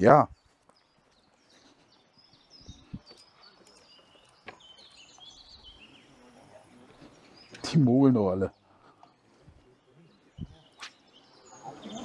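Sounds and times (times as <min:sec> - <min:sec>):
songbird chirps and twitters: 0:00.0 - 0:12.0.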